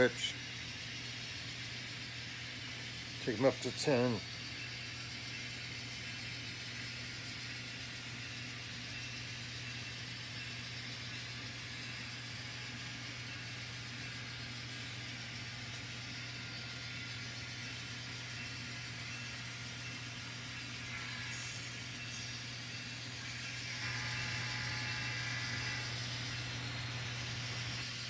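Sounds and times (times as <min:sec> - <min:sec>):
model trains hissing on track: 0:00.0 - 0:28.0.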